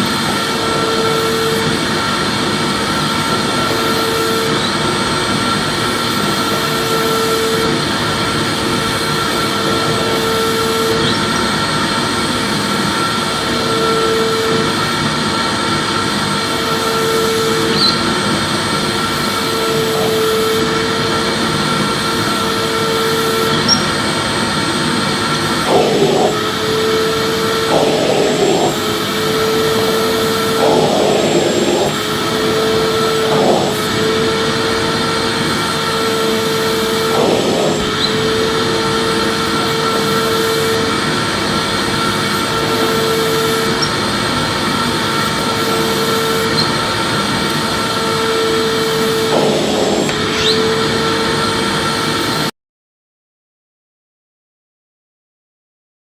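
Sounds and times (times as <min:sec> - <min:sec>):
vacuum cleaner running: 0:00.0 - 0:52.5.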